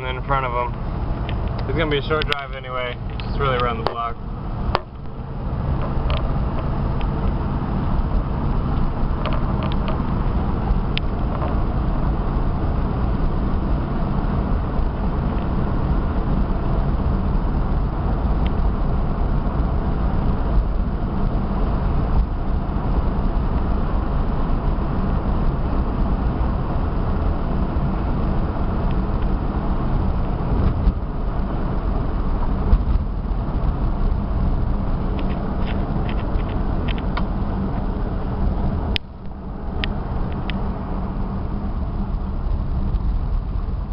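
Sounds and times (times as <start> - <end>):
car engine driving at low speed: 0.0 - 43.9
road noise: 0.0 - 43.9.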